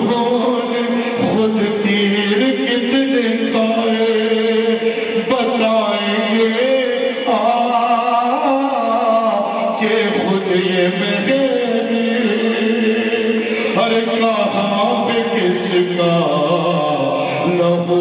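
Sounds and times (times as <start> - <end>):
man chanting a lament: 0.0 - 18.0.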